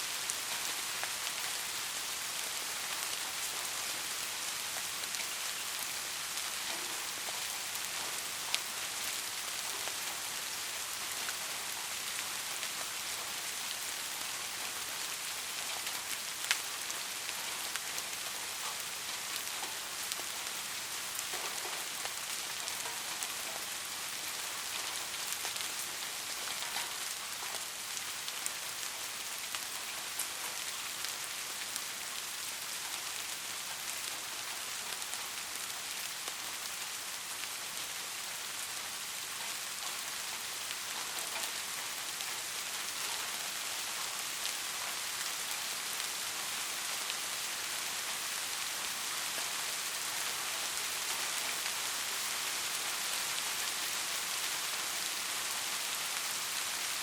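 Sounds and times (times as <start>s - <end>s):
raindrops ticking on a surface: 0.0s - 57.0s
steady rain hiss: 0.0s - 57.0s.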